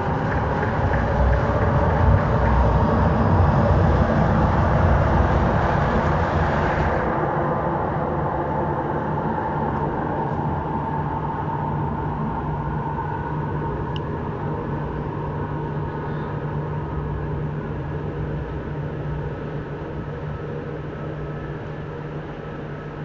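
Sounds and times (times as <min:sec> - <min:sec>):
electric train passing: 0:00.0 - 0:20.9.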